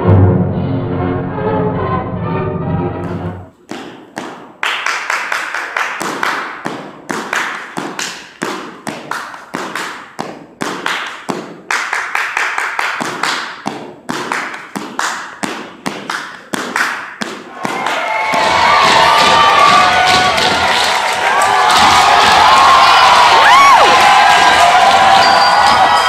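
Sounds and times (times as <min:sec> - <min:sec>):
rhythmic claps and stomps: 0:03.6 - 0:26.0.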